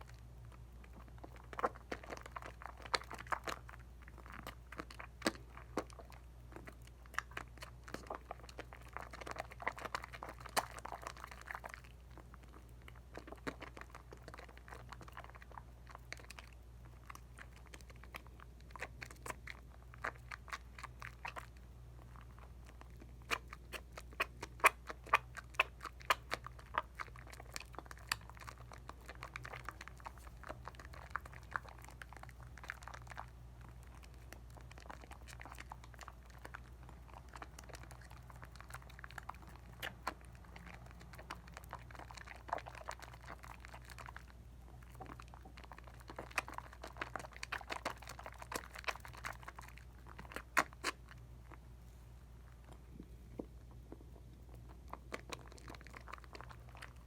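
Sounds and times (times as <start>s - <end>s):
soap lather squishing: 0.0s - 57.0s.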